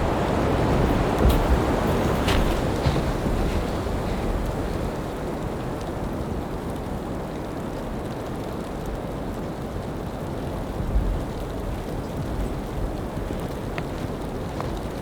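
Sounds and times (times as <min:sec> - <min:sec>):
wind buffeting microphone: 0:00.0 - 0:07.1, 0:10.0 - 0:15.0.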